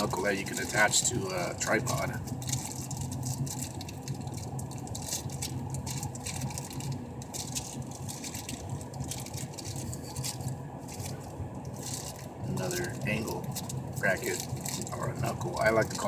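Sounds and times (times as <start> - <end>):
plastic bags crinkling: 0.0 - 16.0
steady low hum: 0.0 - 16.0.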